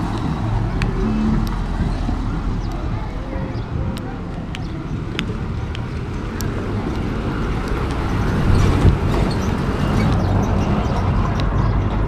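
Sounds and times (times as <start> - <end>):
sharp clicks: 0.0 - 11.6
traffic engine rumble: 0.0 - 12.0.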